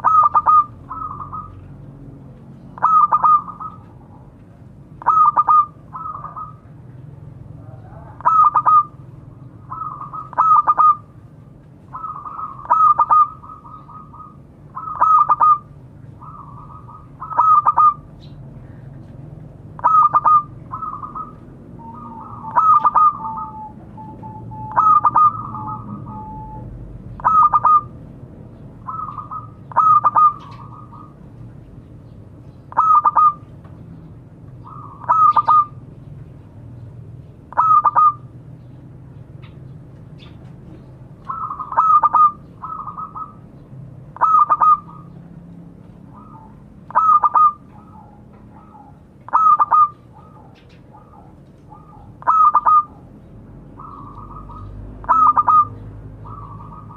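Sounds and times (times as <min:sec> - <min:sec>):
dove cooing: 0:00.0 - 0:01.8, 0:02.7 - 0:04.4, 0:05.0 - 0:06.8, 0:07.4 - 0:11.2, 0:11.8 - 0:18.4, 0:19.8 - 0:28.0, 0:28.8 - 0:31.4, 0:32.7 - 0:33.6, 0:34.6 - 0:35.9, 0:37.5 - 0:38.4, 0:40.2 - 0:56.9.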